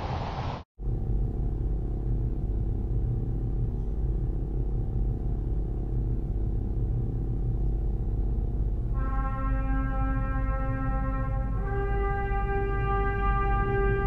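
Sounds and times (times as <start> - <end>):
low rumbling drone: 0.8 - 14.0.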